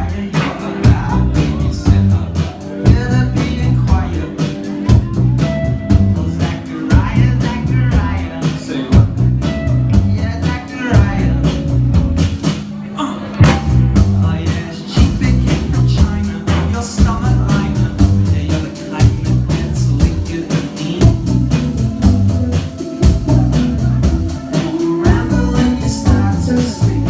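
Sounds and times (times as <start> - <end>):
person singing: 0.0 - 11.8, 12.9 - 27.0
drum kit beat: 0.0 - 12.8, 13.4 - 27.0
live rock band: 0.0 - 27.0.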